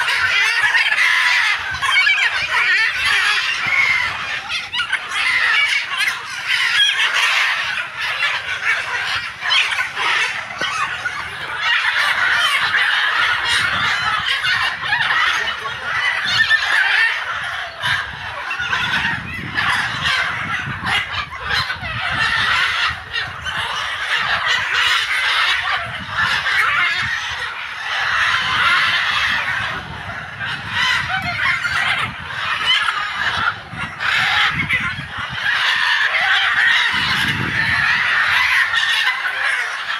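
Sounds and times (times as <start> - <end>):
macaws squawking: 0.0 - 39.9.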